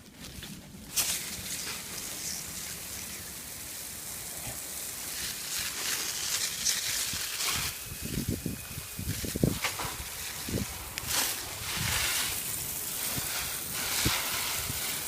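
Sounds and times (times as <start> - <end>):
garden hose spraying water: 0.0 - 15.0.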